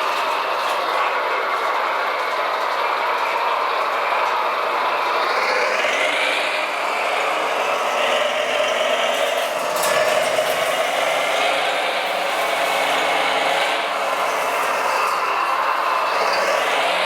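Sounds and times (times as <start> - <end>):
model truck motor whining: 0.0 - 17.0.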